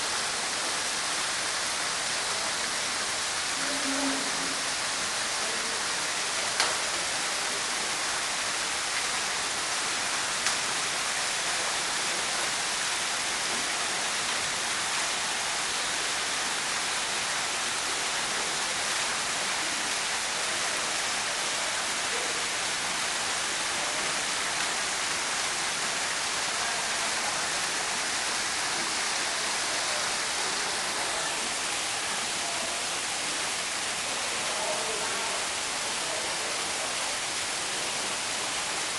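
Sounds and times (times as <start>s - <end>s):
water falling steadily: 0.0s - 38.9s.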